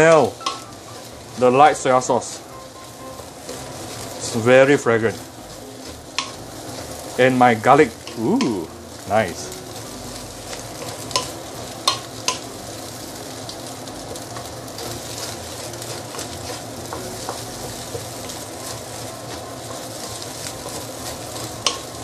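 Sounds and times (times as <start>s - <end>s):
rice sizzling in a wok: 0.0s - 22.0s.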